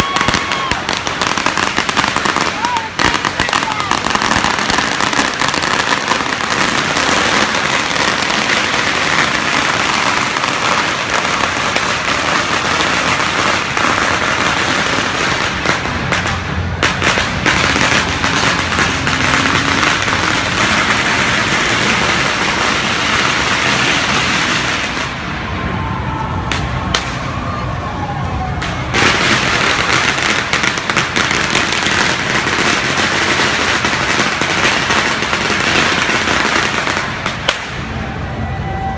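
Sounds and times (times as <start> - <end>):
firecrackers popping: 0.0 - 25.7, 26.4 - 27.5, 28.5 - 38.2.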